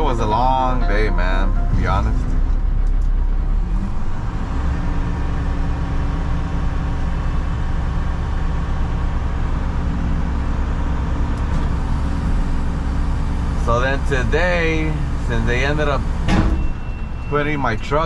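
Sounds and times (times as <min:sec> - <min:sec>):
diesel truck engine rumbling: 0:00.0 - 0:18.0
road noise: 0:00.0 - 0:18.0.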